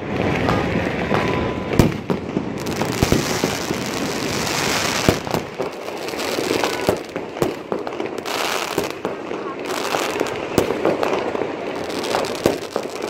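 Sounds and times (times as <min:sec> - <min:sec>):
firecracker bangs: 0:00.0 - 0:13.0
fireworks crackling: 0:00.0 - 0:13.0.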